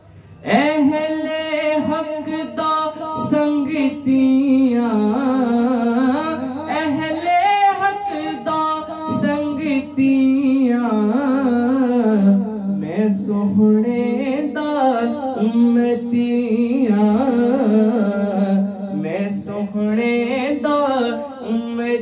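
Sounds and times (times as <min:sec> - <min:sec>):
boy singing into a microphone: 0:00.2 - 0:22.0.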